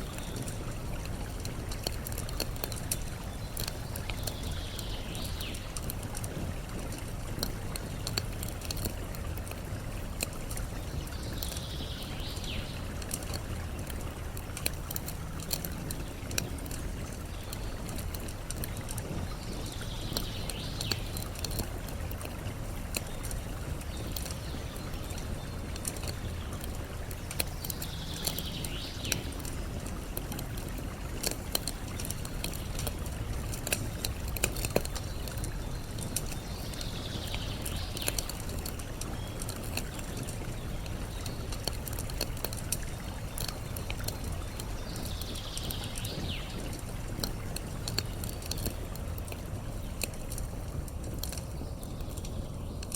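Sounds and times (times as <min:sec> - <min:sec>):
campfire crackling and popping: 0:00.0 - 0:52.9
flowing water: 0:00.0 - 0:52.9.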